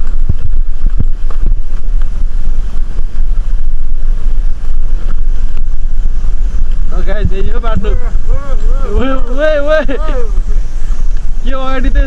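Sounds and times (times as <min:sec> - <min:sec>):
vehicle rumble on rough road: 0:00.0 - 0:12.0
wind buffeting microphone: 0:00.0 - 0:12.0.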